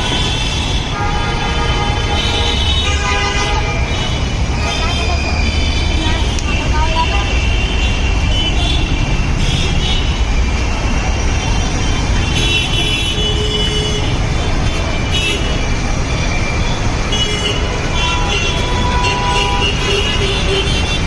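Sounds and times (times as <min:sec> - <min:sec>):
vehicle horns: 0:00.0 - 0:10.3, 0:11.4 - 0:21.0
rumble of traffic engines and tyres: 0:00.0 - 0:21.0.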